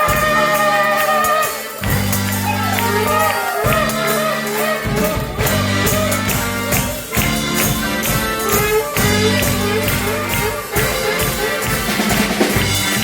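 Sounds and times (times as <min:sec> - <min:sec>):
steady percussion beat: 0:00.0 - 0:13.0
sustained bass notes: 0:00.0 - 0:13.0
tambourine-like jingles: 0:00.0 - 0:13.0.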